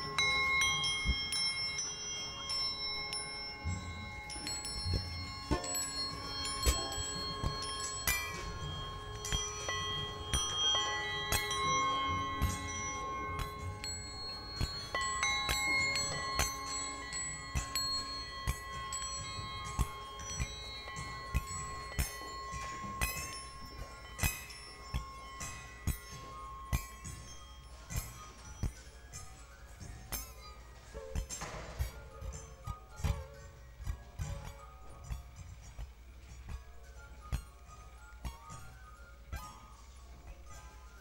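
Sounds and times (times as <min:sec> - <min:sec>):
struck metal ringing tones: 0:00.0 - 0:41.0.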